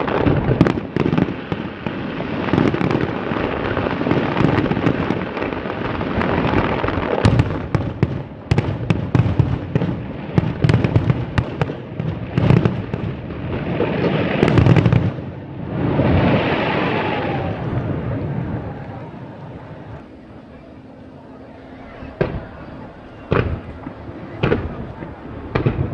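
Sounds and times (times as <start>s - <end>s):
fireworks bangs and crackling: 0.0s - 20.7s, 21.8s - 25.9s.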